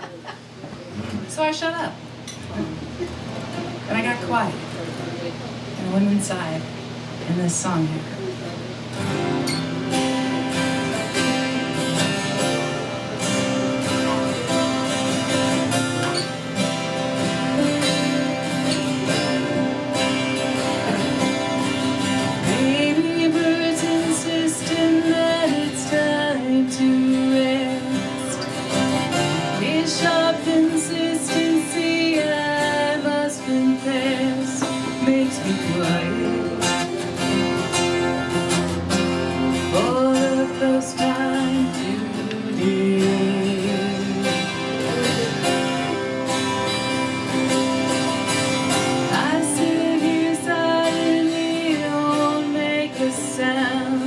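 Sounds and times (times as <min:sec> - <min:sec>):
acoustic guitar folk song: 0:01.0 - 0:54.0.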